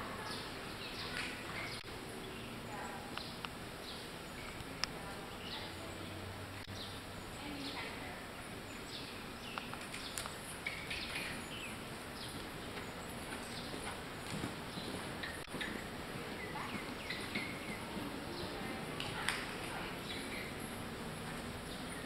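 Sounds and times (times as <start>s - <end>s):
small birds chirping: 0.0s - 22.0s
steady background hiss: 0.0s - 22.0s.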